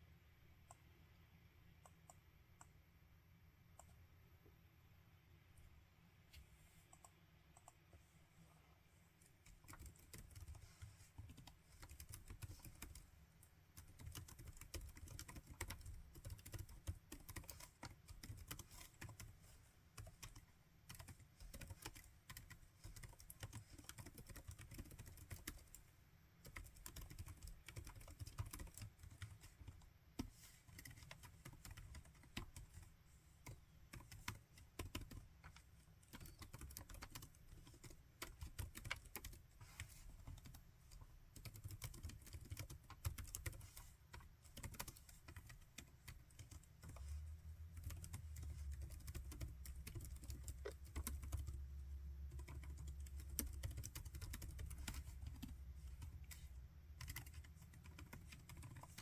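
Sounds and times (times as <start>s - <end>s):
laptop keyboard typing: 9.4s - 59.0s.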